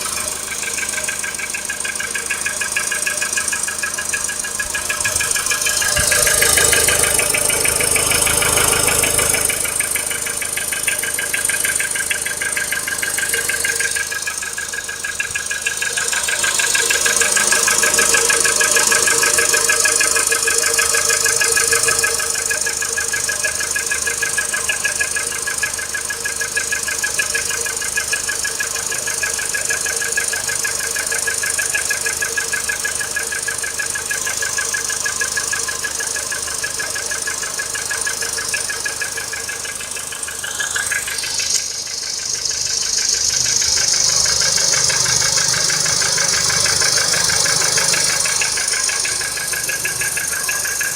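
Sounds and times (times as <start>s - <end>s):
car engine idling with knock: 0.0s - 50.9s.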